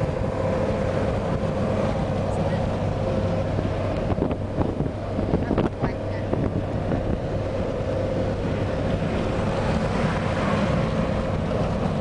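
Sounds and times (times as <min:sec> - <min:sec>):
car road and engine rumble: 0:00.0 - 0:12.0
wind noise: 0:00.0 - 0:12.0.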